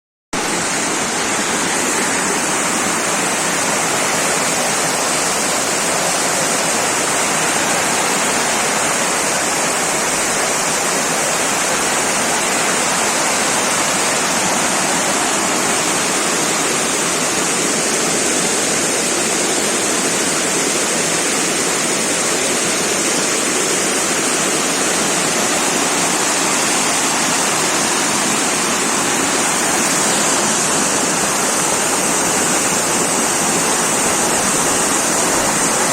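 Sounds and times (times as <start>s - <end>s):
floodwater rushing torrent: 0.4s - 35.9s.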